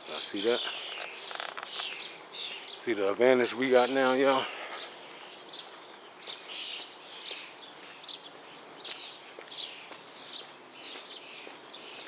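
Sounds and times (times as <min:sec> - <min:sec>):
birds chirping: 0:00.0 - 0:12.0
faint outdoor hiss: 0:00.0 - 0:12.0.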